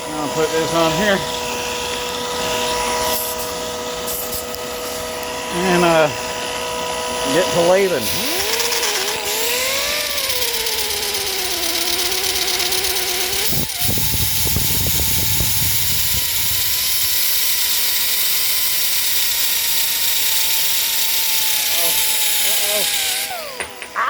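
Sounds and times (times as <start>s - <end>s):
drill motor whine: 0.0s - 24.0s.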